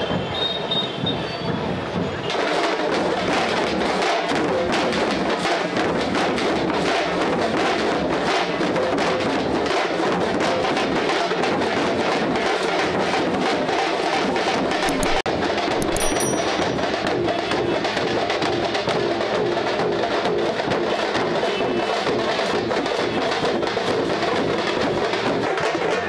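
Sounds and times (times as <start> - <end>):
fast rhythmic drumming: 1.6 - 26.0.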